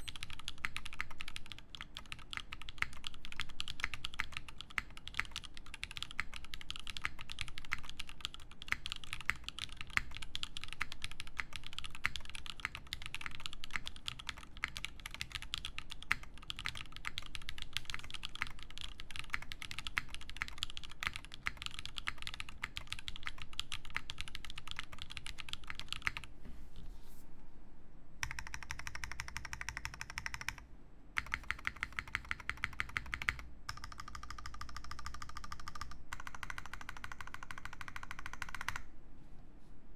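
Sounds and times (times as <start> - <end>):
rapid evenly spaced clicks: 0.0 - 26.3, 28.2 - 38.9
typing on mechanical keyboard: 0.0 - 26.3, 28.2 - 30.6, 31.2 - 38.9.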